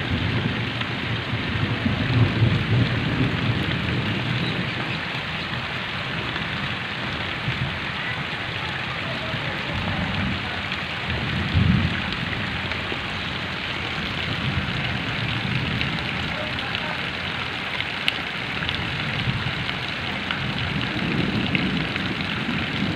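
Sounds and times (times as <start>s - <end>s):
heavy rain on standing water: 0.0s - 22.9s.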